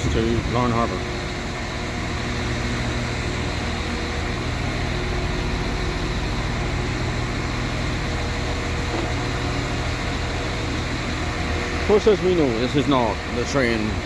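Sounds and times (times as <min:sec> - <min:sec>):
diesel train engine hum: 0:00.0 - 0:14.0.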